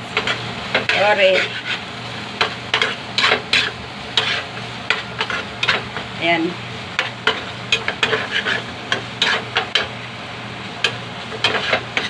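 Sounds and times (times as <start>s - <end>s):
soft frying sizzle: 0.0s - 12.0s
metal spatula scraping frying pan: 0.1s - 6.0s, 6.9s - 9.9s, 10.8s - 12.0s.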